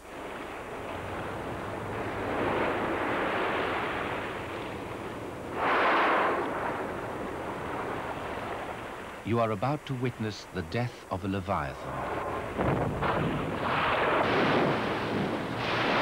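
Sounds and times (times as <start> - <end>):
sea waves against ship: 0.0 - 16.0
wind: 0.0 - 16.0.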